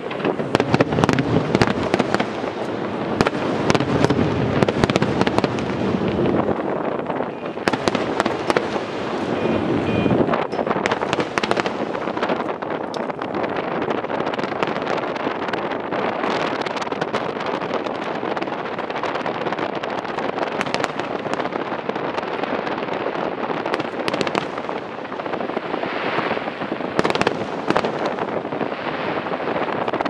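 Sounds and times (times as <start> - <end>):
fireworks rumble and crackle: 0.0 - 30.0
sharp firework bangs: 0.0 - 30.0.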